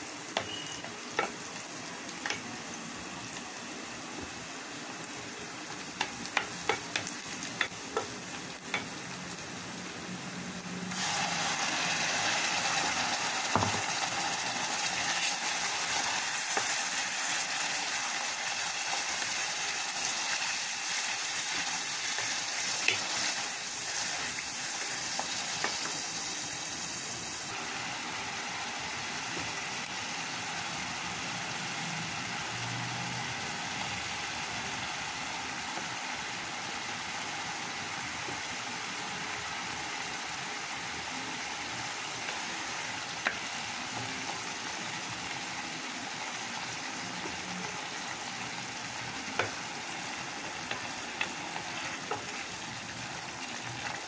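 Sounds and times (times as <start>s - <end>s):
sauce sizzling in a pot: 0.0s - 54.0s.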